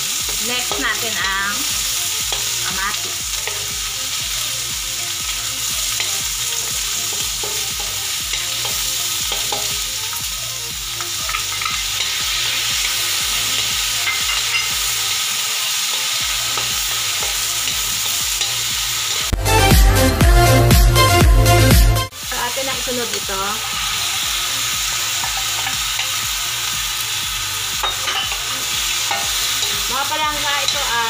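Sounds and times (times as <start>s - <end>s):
onion frying in oil: 0.0s - 19.4s, 22.1s - 31.0s.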